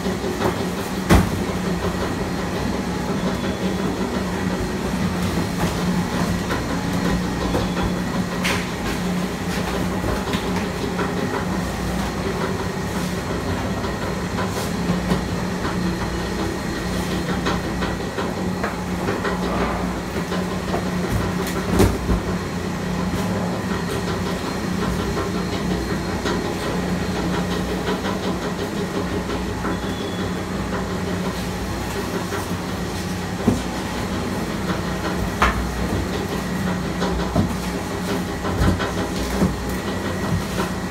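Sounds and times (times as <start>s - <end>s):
compactor machine drone: 0.0s - 40.9s.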